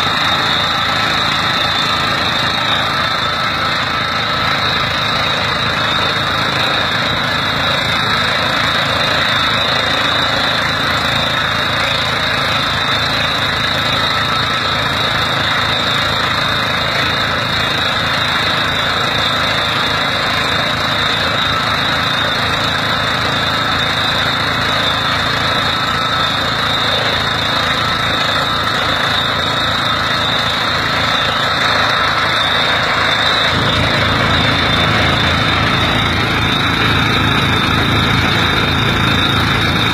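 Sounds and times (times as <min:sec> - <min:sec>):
high whine: 0:00.0 - 0:39.9
tractor engine running: 0:00.0 - 0:39.9.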